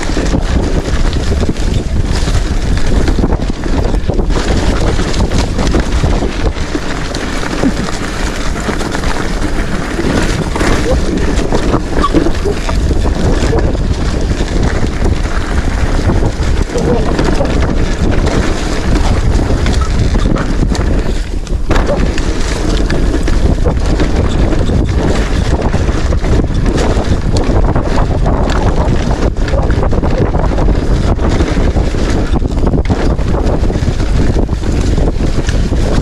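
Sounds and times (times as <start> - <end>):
wind buffeting microphone: 0.0 - 36.0
low rumble: 1.2 - 31.8.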